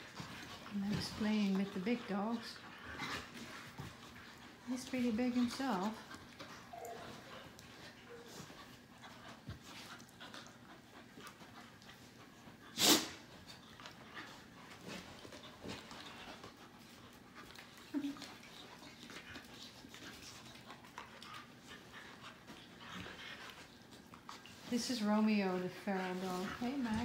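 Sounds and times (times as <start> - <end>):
dogs scuffling on a bed: 0.0 - 10.0, 13.2 - 18.4, 19.1 - 27.0
dogs panting: 0.0 - 27.0.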